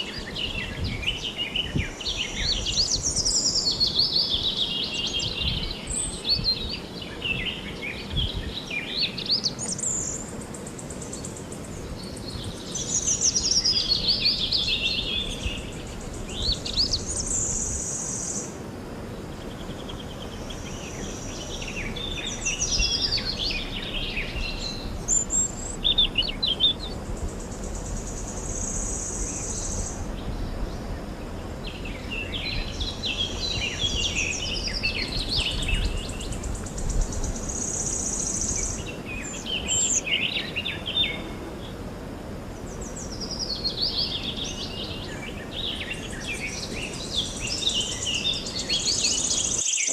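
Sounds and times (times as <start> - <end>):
songbirds singing and chirping: 0.0 - 49.9
steady background hiss: 0.0 - 49.9.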